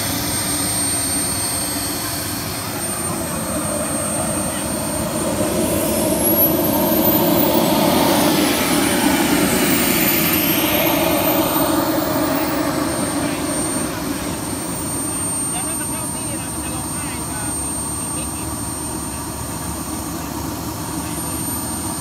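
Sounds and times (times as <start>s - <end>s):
model jet turbine whine: 0.0s - 22.0s.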